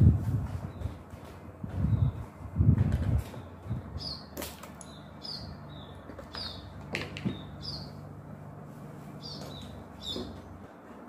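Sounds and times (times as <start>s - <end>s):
small birds chirping: 0.5s - 10.7s.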